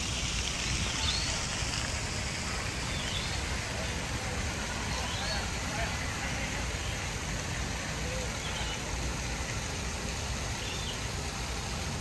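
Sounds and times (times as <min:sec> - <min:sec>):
distant voices: 0:00.2 - 0:10.5.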